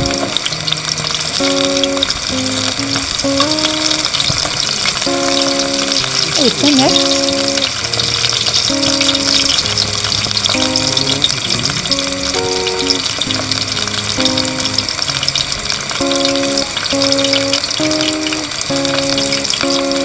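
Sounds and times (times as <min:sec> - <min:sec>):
rain patter: 0:00.0 - 0:20.0
slow music melody: 0:00.0 - 0:20.0.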